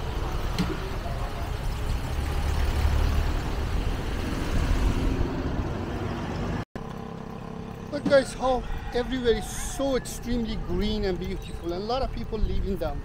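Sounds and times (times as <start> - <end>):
motor vehicle engine rumble: 0.0 - 13.0
outdoor background noise: 0.0 - 13.0.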